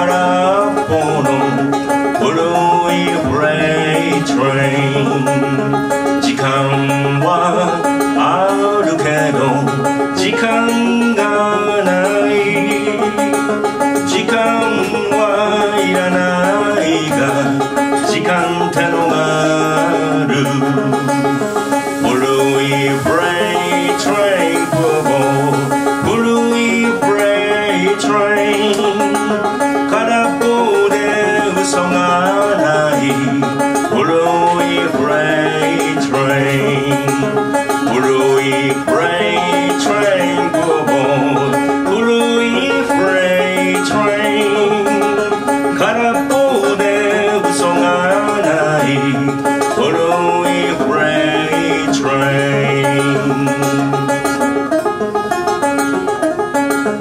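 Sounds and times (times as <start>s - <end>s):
banjo picking: 0.0s - 57.0s.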